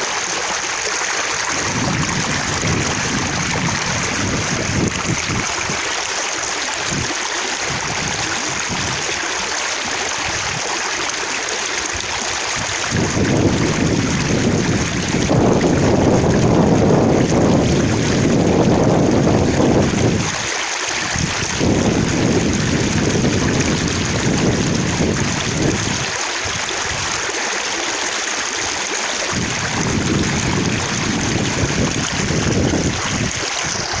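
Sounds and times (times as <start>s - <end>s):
running water splashing: 0.0s - 34.0s.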